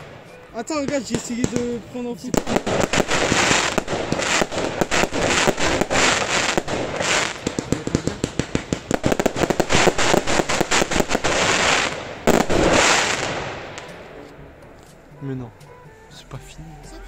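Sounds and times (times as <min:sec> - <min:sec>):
fireworks bangs and crackles: 0:00.0 - 0:14.2.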